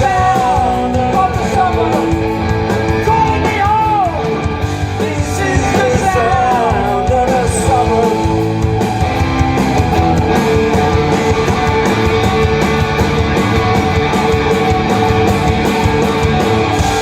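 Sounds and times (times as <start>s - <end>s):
bass guitar: 0.0s - 17.0s
distorted electric guitar: 0.0s - 17.0s
drums with cymbal hits: 0.0s - 17.0s.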